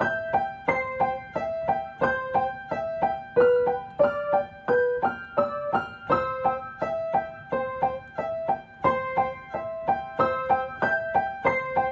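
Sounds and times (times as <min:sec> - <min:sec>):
gentle piano melody: 0:00.0 - 0:11.9.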